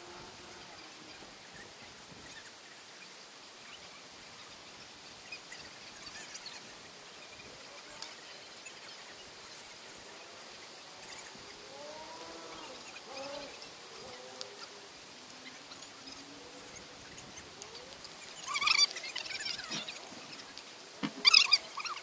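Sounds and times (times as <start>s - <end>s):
insects chirping: 0.0s - 22.0s
low hiss: 0.0s - 22.0s.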